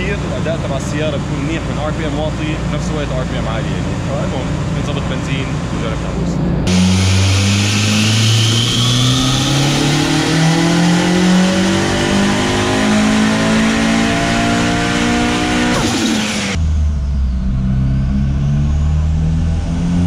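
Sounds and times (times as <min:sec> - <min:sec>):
turbocharged engine revving under load: 0:00.0 - 0:16.6.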